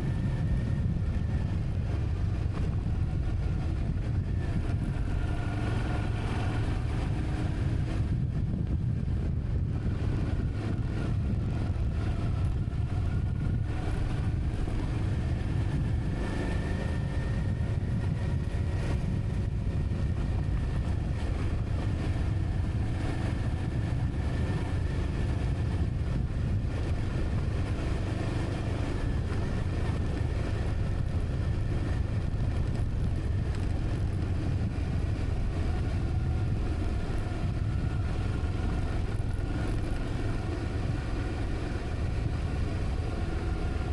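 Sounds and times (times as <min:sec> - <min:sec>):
vehicle engine running: 0:00.0 - 0:43.9
wind and road noise: 0:00.0 - 0:43.9.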